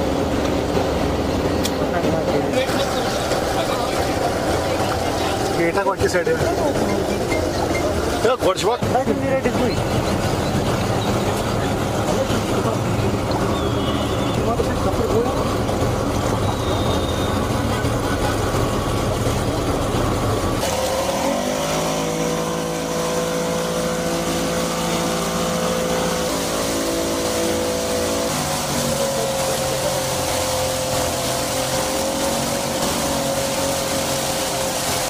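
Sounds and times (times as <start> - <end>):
outboard motors humming: 0.0 - 35.0
water rushing in wake: 0.0 - 35.0.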